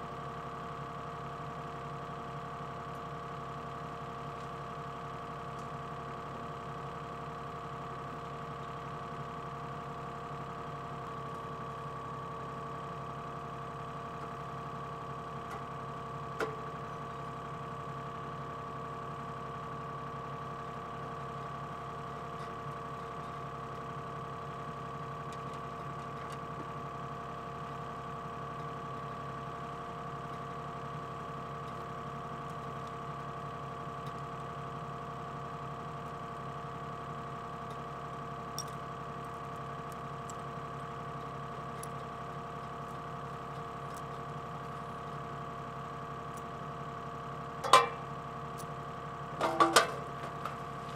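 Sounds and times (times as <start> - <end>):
excavator engine running: 0.0 - 50.9.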